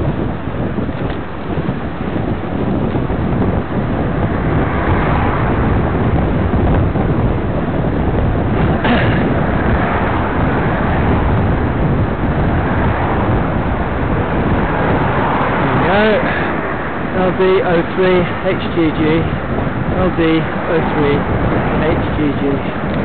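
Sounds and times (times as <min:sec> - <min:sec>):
road traffic: 0:00.0 - 0:23.0
wind buffeting the microphone: 0:00.0 - 0:23.0.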